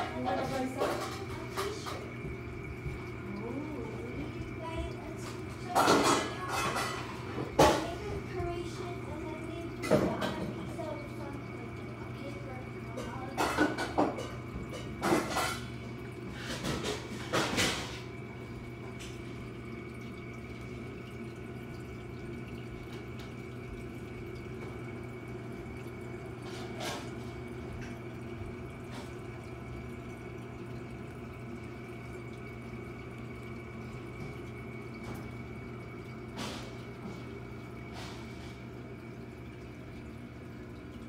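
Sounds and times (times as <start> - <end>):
aquarium pumps humming: 0.0 - 41.0
water trickling and dripping: 0.0 - 41.0.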